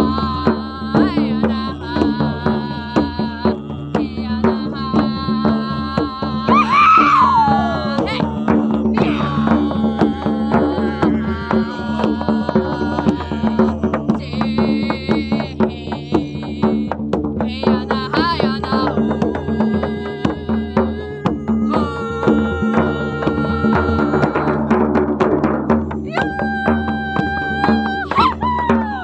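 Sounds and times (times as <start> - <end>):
wordless singing: 0.0 - 25.3, 26.0 - 29.0
hand drum rhythm: 0.0 - 29.0.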